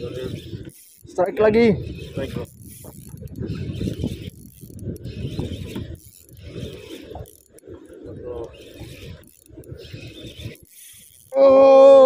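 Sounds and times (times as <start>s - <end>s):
clothing brushing microphone: 0.0s - 11.3s
fishing reel whirring: 0.0s - 12.0s.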